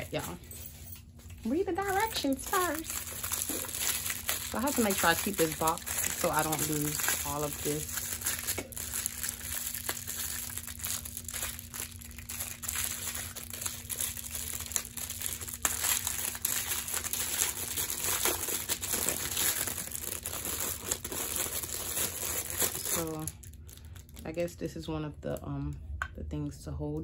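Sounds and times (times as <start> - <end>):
plastic bag crinkling: 0.0 - 24.4.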